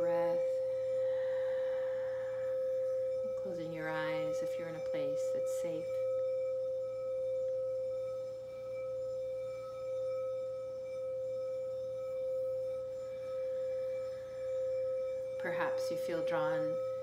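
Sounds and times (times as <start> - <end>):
singing bowl tone: 0.0 - 17.0.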